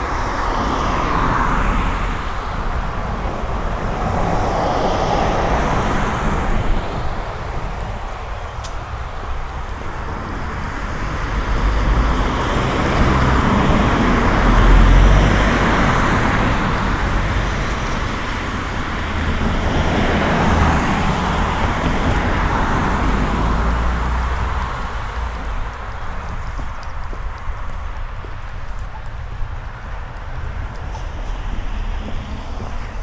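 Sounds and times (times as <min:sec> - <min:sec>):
tyre hiss on wet street: 0:00.0 - 0:33.0.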